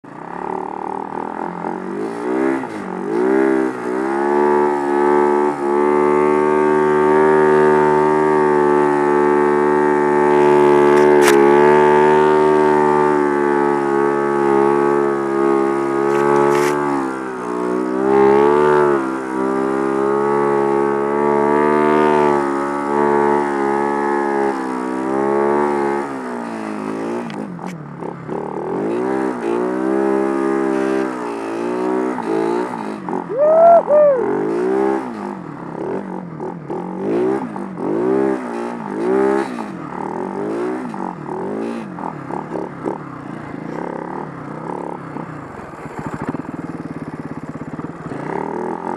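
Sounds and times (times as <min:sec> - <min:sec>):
dirt bike engine revving: 0:00.3 - 0:27.2, 0:28.3 - 0:45.0.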